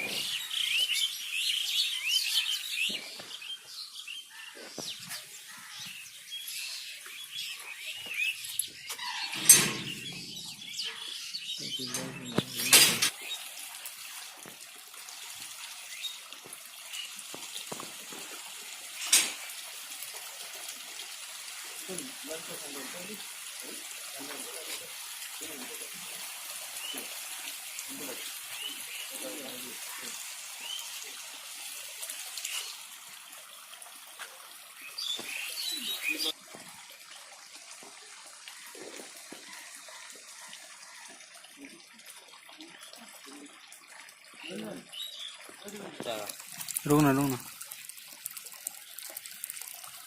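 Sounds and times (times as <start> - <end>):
running water rushing: 0.0 - 50.0.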